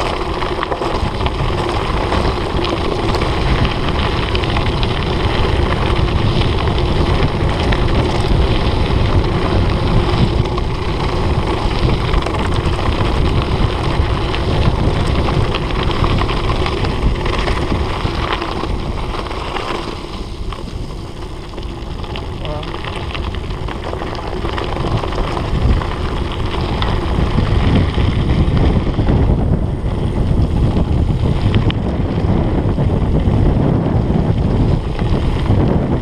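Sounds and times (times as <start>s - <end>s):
bike rattling over bumps: 0.0s - 36.0s
tyres rumbling over gravel: 0.0s - 36.0s
wind buffeting microphone: 0.0s - 36.0s.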